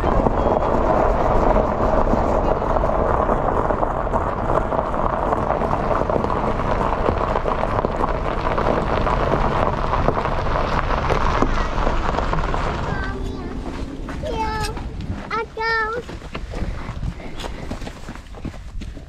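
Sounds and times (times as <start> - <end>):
faint crackling: 0.0 - 18.7
car rumble: 0.0 - 19.0
wind buffeting microphone: 0.0 - 19.0.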